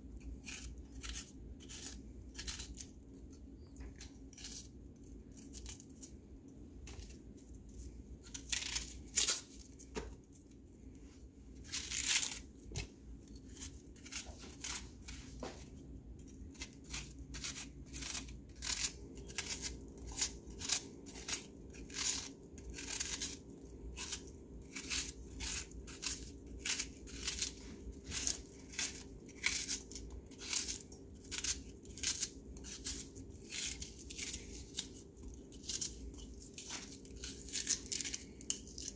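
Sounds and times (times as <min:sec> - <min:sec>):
knife cutting crisp vegetables: 0:00.2 - 0:06.2, 0:11.6 - 0:38.9.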